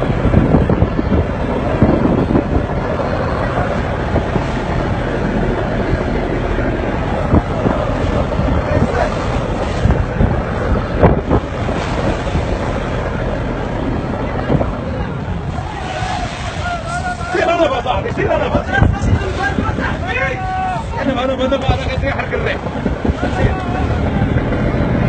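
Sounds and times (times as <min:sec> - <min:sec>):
small boat running: 0:00.0 - 0:25.0
waves: 0:00.0 - 0:25.0
wind buffeting microphone: 0:00.0 - 0:25.0.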